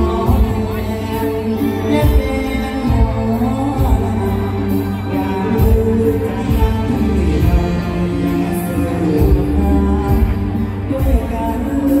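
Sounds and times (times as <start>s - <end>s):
person singing melody: 0.0s - 12.0s.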